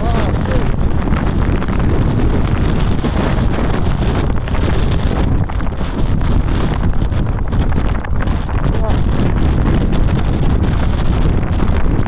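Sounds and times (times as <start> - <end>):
blizzard wind buffeting microphone: 0.0 - 12.0.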